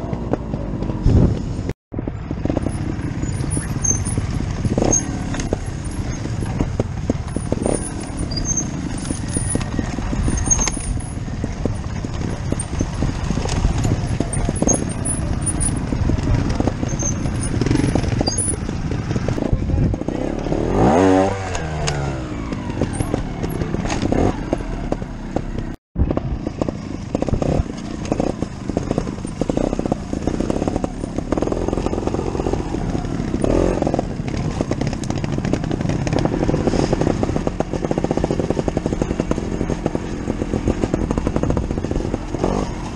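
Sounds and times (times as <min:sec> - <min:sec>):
motorcycle engine revving: 0:00.0 - 0:42.9
motorcycle rattling: 0:00.0 - 0:42.9.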